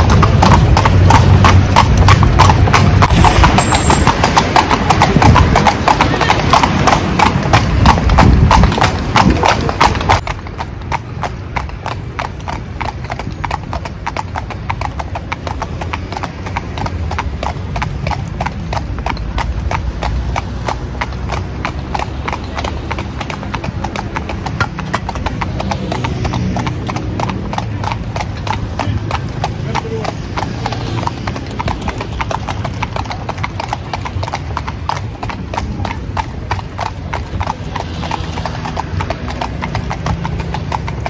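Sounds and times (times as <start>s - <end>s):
hooves clip-clopping on pavement: 0.0s - 41.0s.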